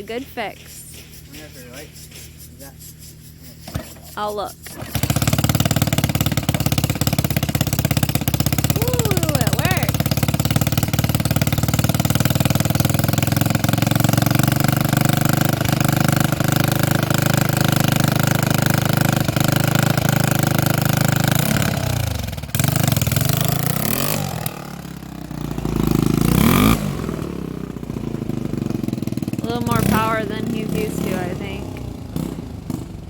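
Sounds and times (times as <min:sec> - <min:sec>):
atv engine revving: 0:03.7 - 0:33.0.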